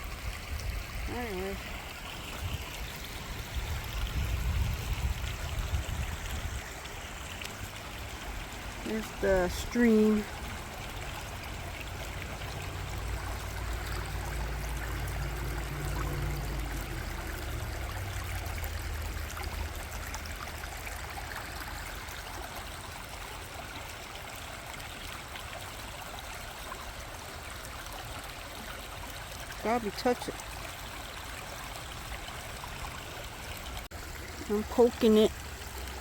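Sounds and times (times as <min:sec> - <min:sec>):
stream trickling over rocks: 0:00.0 - 0:36.0.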